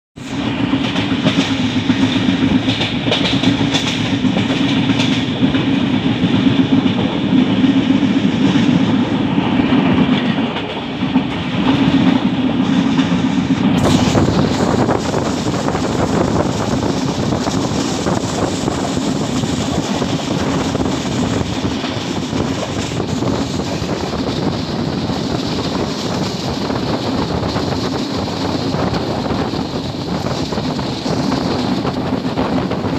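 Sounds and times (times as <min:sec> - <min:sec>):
train wheels on rails: 0:00.2 - 0:32.9.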